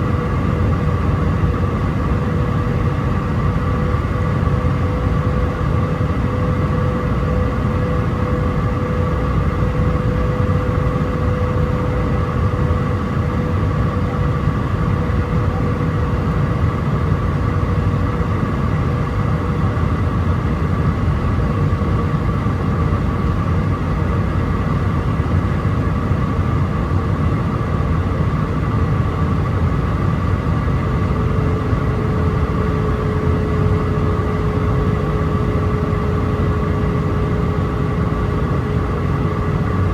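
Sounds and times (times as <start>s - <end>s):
airflow and jet engine roar: 0.0s - 39.9s.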